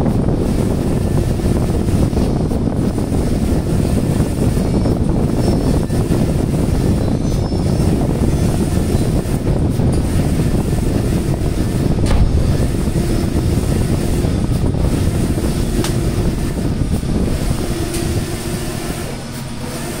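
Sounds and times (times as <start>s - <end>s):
large printer running: 0.0s - 20.0s.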